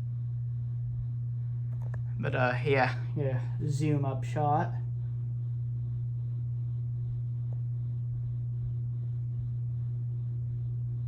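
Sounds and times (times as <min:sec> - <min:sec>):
ceiling fan motor buzzing: 0:00.0 - 0:11.0.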